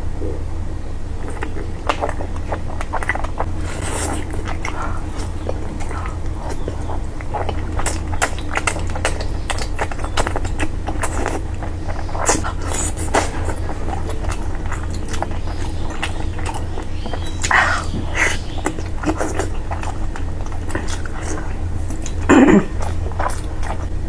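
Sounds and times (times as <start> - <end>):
steady low hum: 0.0 - 24.0
person chewing and smacking: 1.2 - 24.0.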